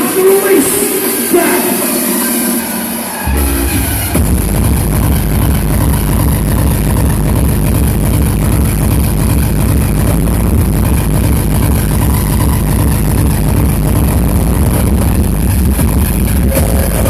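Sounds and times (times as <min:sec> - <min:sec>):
hardstyle dance music: 0:00.0 - 0:17.0
pounding distorted kick and bass: 0:00.0 - 0:17.0.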